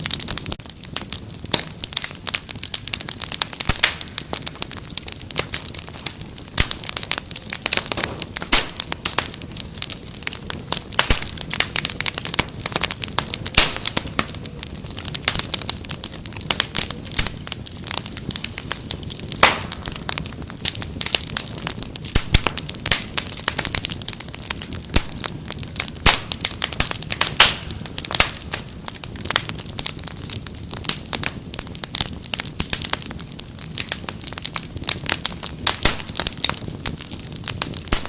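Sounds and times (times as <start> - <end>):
fire crackling: 0.0 - 38.0.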